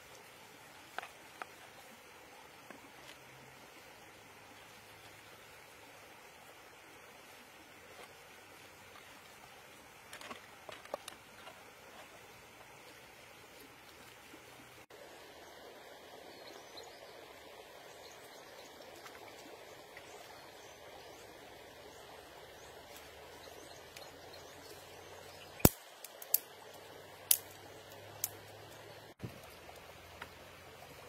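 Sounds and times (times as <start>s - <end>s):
faint outdoor background: 0.0s - 31.0s.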